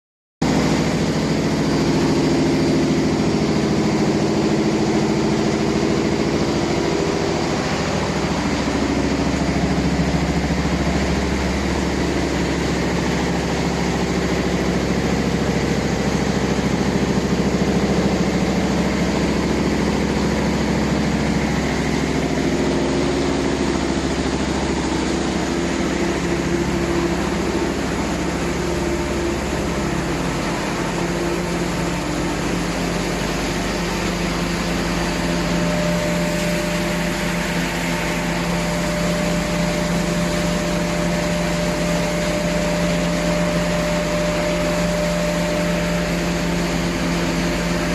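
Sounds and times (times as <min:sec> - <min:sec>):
industrial machinery drone: 0:00.4 - 0:47.9.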